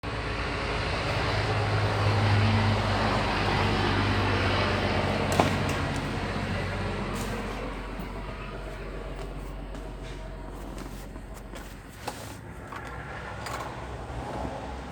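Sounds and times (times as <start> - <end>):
van engine humming: 0.0 - 14.9.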